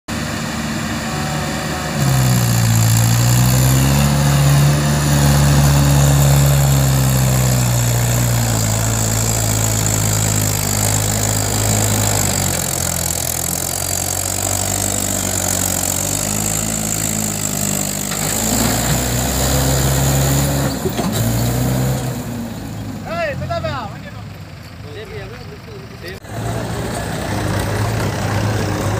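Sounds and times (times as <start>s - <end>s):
diesel tractor engine revving: 0.1s - 28.9s.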